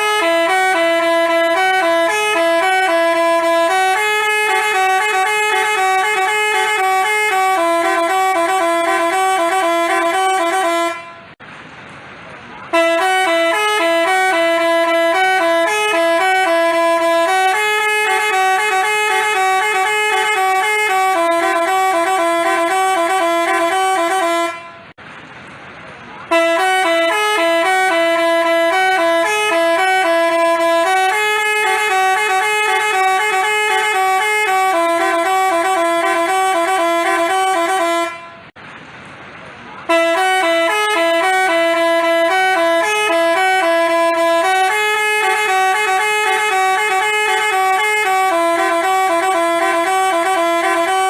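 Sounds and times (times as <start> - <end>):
multi-trumpet bus horn tune: 0.0 - 11.4, 12.6 - 25.0, 26.2 - 38.6, 39.8 - 51.0.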